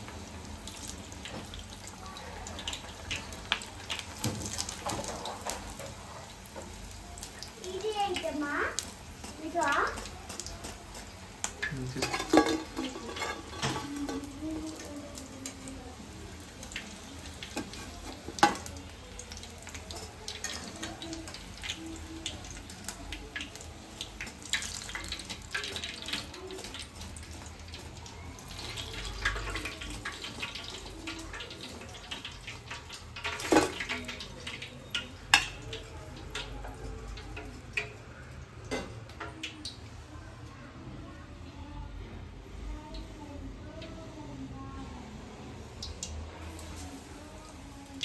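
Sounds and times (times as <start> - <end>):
oil sizzling and crackling: 0.0 - 40.5, 41.3 - 48.0.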